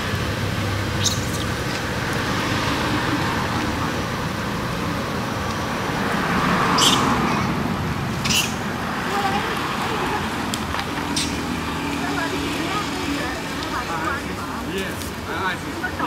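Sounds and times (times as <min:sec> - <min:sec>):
roadside traffic noise: 0:00.0 - 0:16.0.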